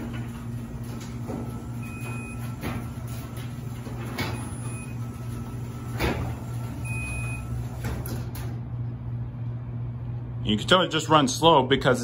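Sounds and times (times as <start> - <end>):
garage door opener motor hum: 0.0 - 10.3.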